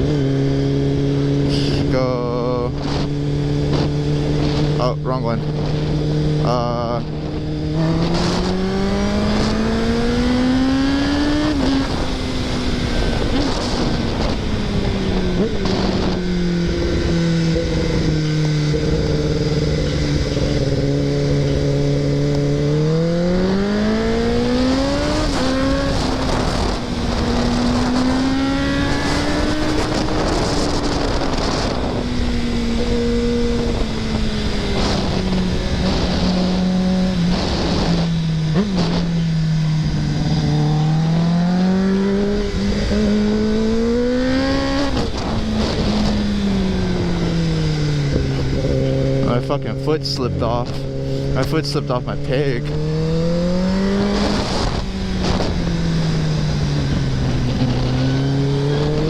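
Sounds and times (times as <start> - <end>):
motorcycle engine revving: 0.0 - 59.0
wind noise: 0.0 - 59.0.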